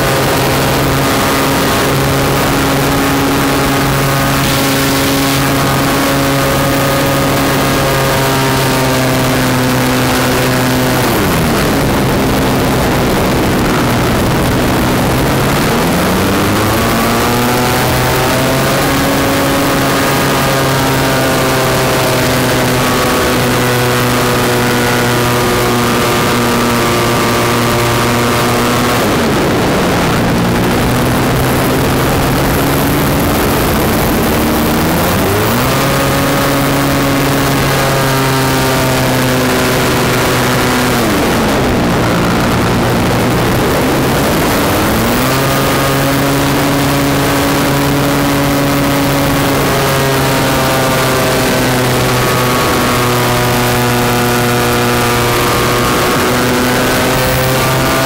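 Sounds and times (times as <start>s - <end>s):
plane engine and propeller: 0.0s - 58.0s
wind rush: 0.0s - 58.0s.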